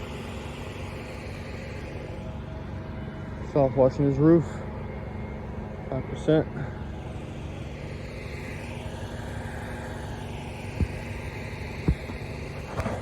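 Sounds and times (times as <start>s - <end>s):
pump motor running: 0.0s - 13.0s.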